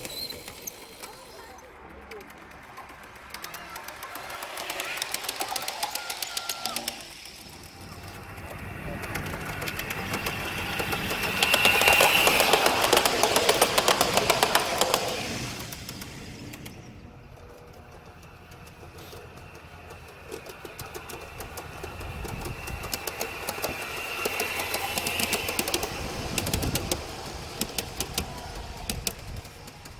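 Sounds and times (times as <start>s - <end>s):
model train wheels clicking: 0.0s - 29.9s.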